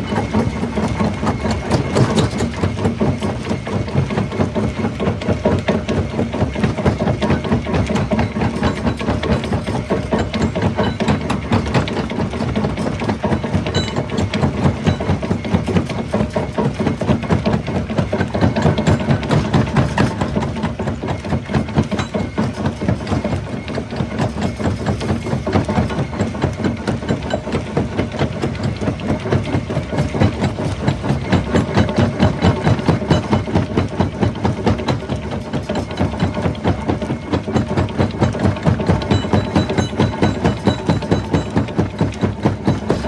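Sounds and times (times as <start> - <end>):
rock crusher pounding: 0.0 - 43.0.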